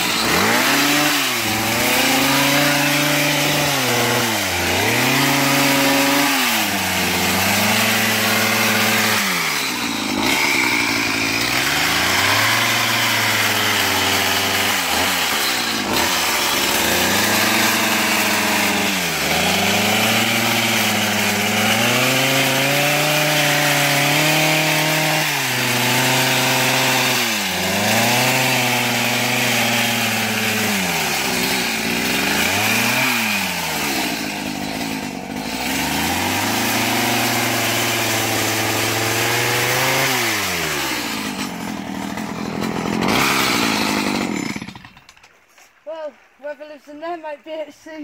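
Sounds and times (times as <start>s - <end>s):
hedge trimmer engine revving: 0.0s - 45.3s.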